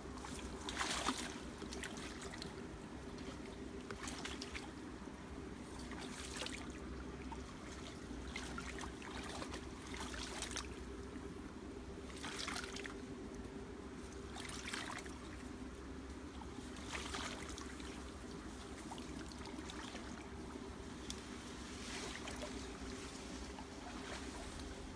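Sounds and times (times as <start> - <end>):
steady low hum: 0.0 - 24.9
wading through shallow water: 0.0 - 24.9.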